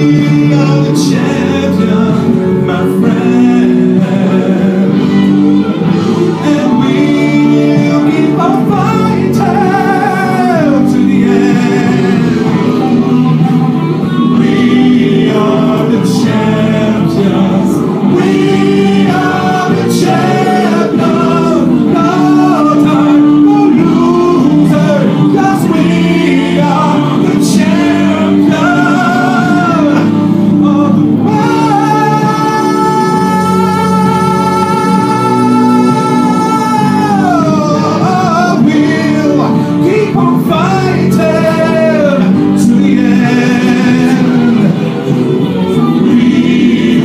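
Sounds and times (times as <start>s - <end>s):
man singing into a microphone: 0.0s - 47.0s
pop backing music: 0.0s - 47.0s.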